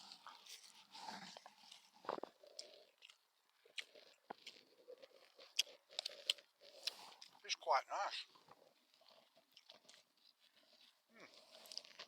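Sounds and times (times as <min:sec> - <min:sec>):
person chewing noodles: 0:00.0 - 0:07.4, 0:08.2 - 0:12.0.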